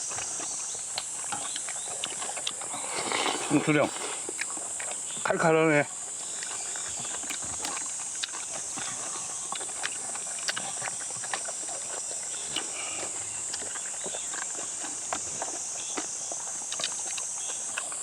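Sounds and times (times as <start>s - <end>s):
chewing and slurping: 0.0s - 18.0s
high insect buzz: 0.0s - 18.0s.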